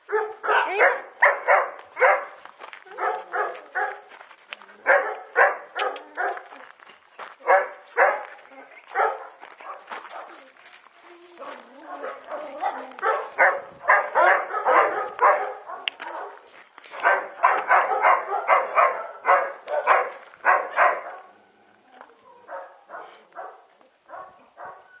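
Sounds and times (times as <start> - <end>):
dog barking: 0.1 - 4.1, 4.8 - 6.5, 7.4 - 8.3, 8.9 - 10.4, 11.5 - 21.3, 22.5 - 24.9.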